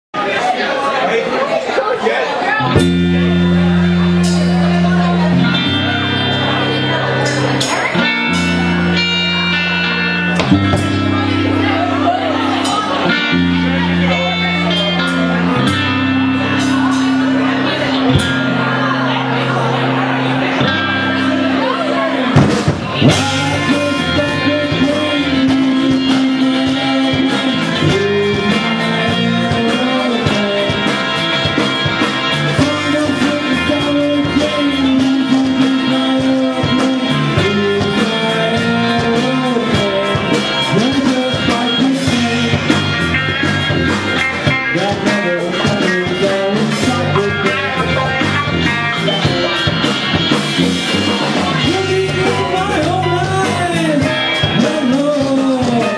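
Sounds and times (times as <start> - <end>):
guitar: 0.1 - 55.9
rock music: 2.5 - 55.9
person singing: 2.6 - 55.9
steady beat: 2.7 - 55.9.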